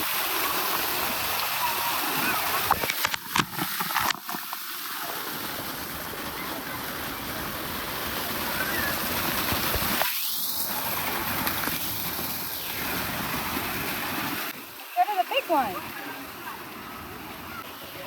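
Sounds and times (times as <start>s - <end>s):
splashing falling water: 0.0s - 18.0s.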